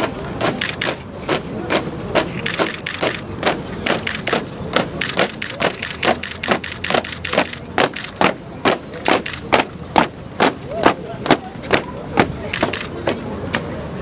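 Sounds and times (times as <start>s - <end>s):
soldiers marching in step: 0.0s - 14.0s.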